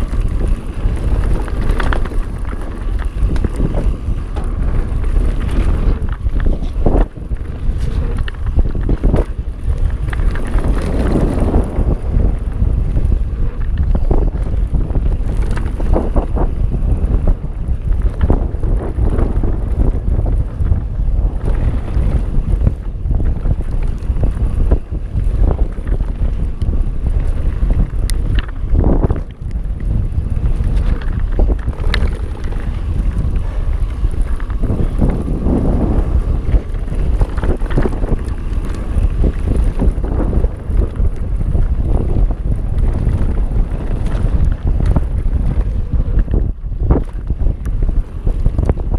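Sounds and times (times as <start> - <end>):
bike clicks and rattles: 0.0 - 48.9
tyres on loose dirt: 0.0 - 48.9
wind buffeting microphone: 0.0 - 48.9.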